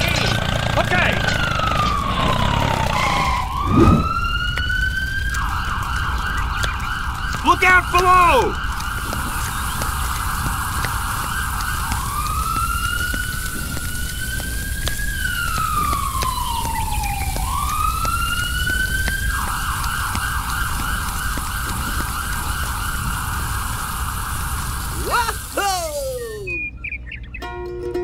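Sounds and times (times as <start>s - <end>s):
electronic siren yelping and wailing: 0.7s - 26.7s.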